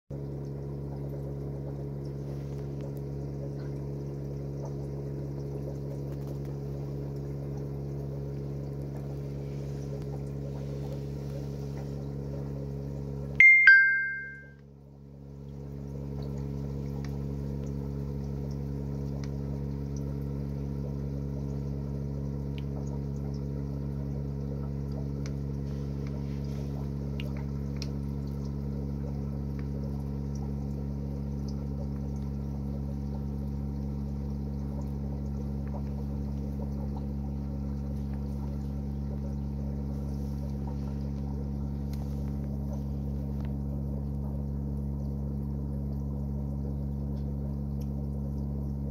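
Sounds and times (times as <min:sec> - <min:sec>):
aquarium pump humming: 0:00.1 - 0:48.9.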